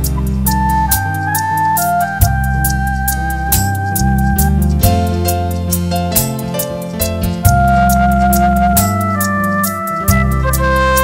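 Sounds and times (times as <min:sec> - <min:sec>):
bass: 0:00.0 - 0:11.0
drums: 0:00.0 - 0:11.0.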